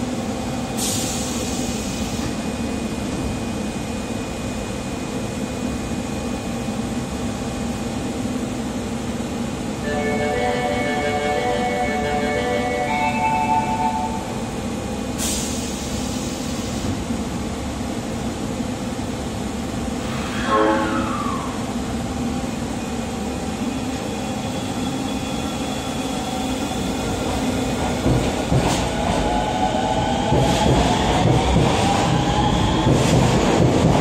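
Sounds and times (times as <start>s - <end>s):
subway train humming: 0.0s - 34.0s.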